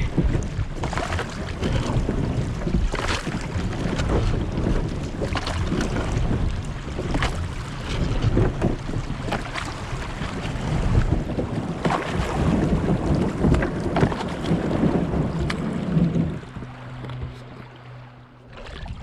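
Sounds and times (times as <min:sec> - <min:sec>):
paddle splashing in water: 0:00.0 - 0:19.0
wind buffeting microphone: 0:00.0 - 0:19.0.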